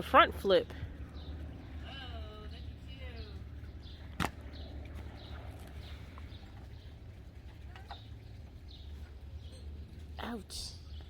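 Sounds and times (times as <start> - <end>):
birds chirping: 0.0 - 11.0
steady low hum: 0.0 - 11.0.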